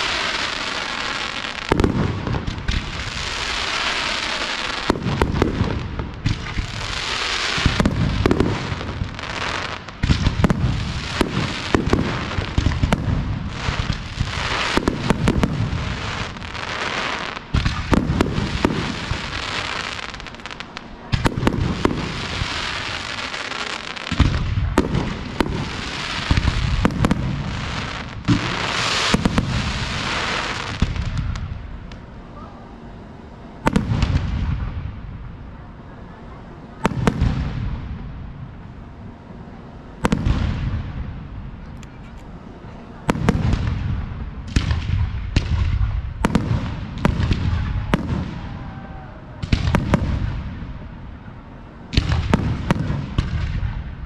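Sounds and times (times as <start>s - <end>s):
fireworks crackling: 0.0s - 32.3s, 33.6s - 35.6s, 36.7s - 54.0s.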